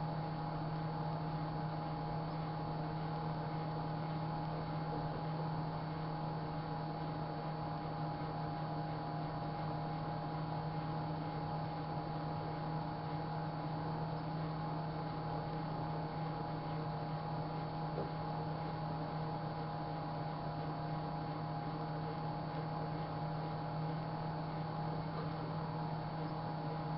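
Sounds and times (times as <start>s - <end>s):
microwave oven humming: 0.0s - 26.9s.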